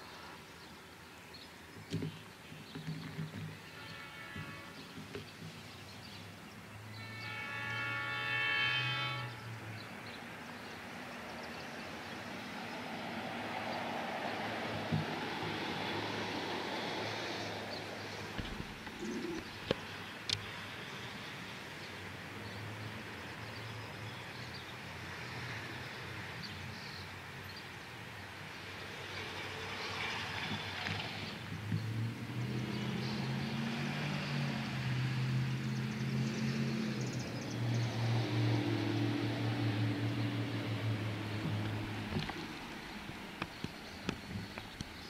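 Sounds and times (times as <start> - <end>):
outdoor background noise: 0.0 - 45.0.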